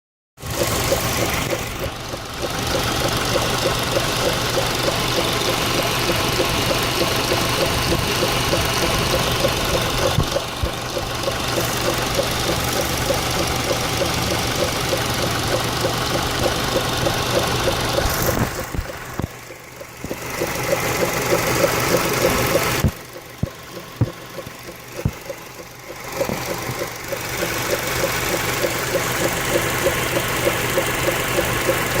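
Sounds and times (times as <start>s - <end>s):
engine running: 0.4s - 32.0s
rhythmic engine ticking: 0.4s - 32.0s
clicks: 1.4s - 32.0s.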